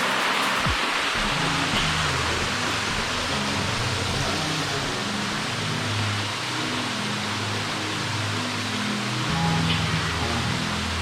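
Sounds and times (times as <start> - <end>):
music of held low notes: 0.0 - 11.0
waterfall rushing: 0.0 - 11.0.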